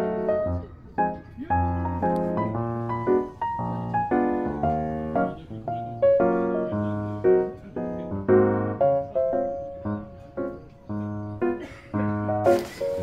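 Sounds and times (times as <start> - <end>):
piano tune: 0.0 - 13.0.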